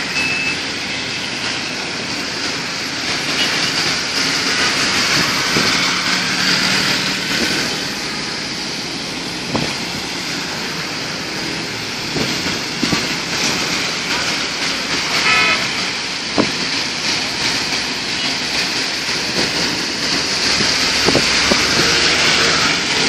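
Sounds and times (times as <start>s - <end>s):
tyres hissing on wet road: 0.0s - 23.0s
vehicle engines running: 0.0s - 23.0s.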